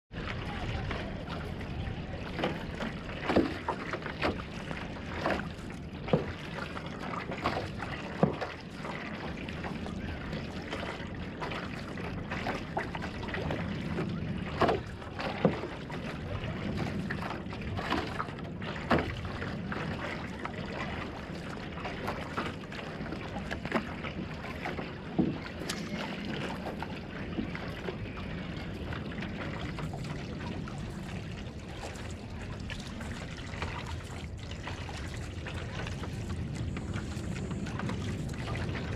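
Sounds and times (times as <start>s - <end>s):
water along canoe hull: 0.0s - 38.9s
paddle splashes and water slaps: 0.1s - 38.9s.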